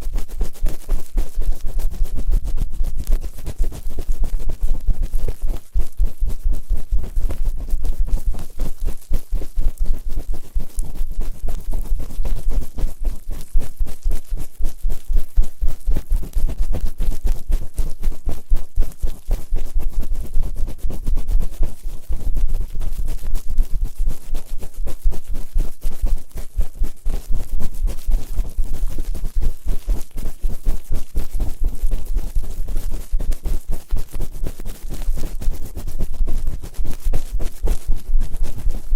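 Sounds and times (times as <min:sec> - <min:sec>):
scraping against microphone: 0:00.0 - 0:38.9.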